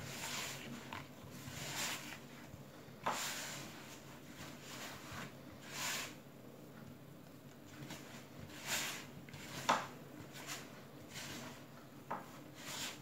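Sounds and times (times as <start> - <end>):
dough rubbing in plastic bowl: 0.0 - 6.3, 7.7 - 13.0.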